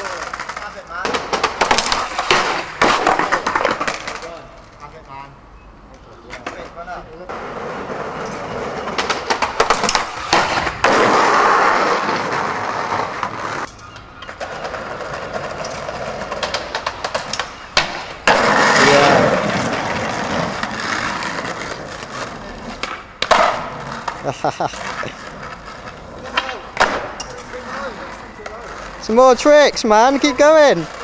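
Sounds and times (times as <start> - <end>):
skateboard clacks and knocks: 0.0 - 4.3, 6.3 - 24.2, 24.8 - 29.0
skateboard wheels rolling on tarmac: 0.0 - 31.0.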